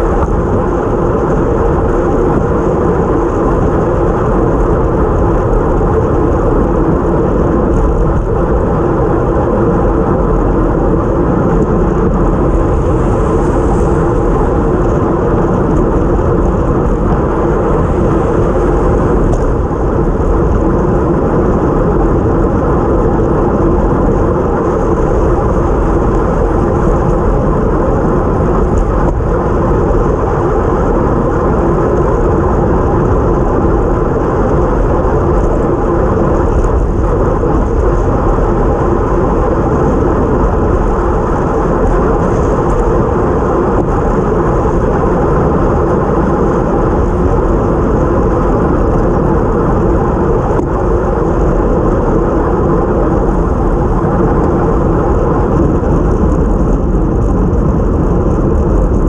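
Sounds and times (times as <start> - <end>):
tyres on wet road: 0.0 - 53.8
road noise: 0.0 - 59.0
wind rushing: 0.0 - 59.0.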